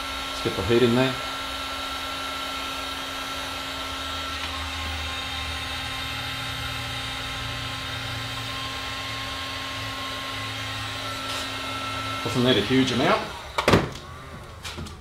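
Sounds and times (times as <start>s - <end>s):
heat gun fan whirring: 0.0s - 15.0s.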